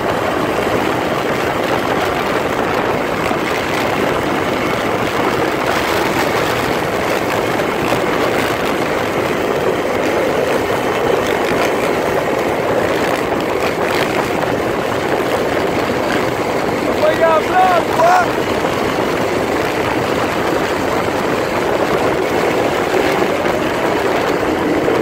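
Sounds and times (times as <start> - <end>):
dirt bike engines running: 0.0 - 25.0
wind on microphone: 0.0 - 25.0.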